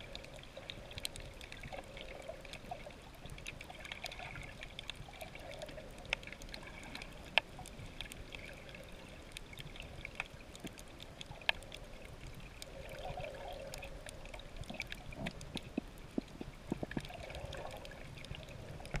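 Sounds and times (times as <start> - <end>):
muffled underwater noise: 0.0 - 19.0
sharp clicks and crackles: 0.0 - 19.0.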